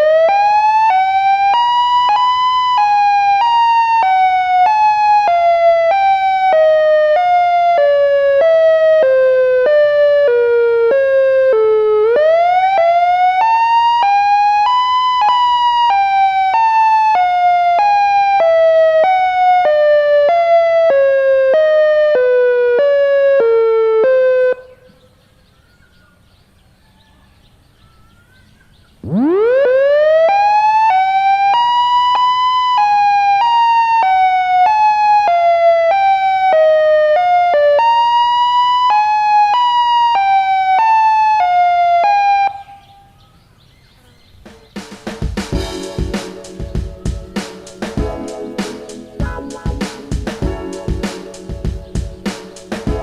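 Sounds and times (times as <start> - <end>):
synthesized siren wailing: 0.0 - 24.9, 29.0 - 43.1, 45.6 - 53.0.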